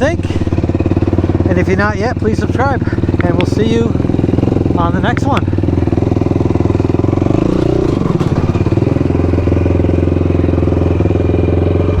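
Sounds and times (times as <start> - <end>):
quad engine running and revving: 0.0 - 12.0.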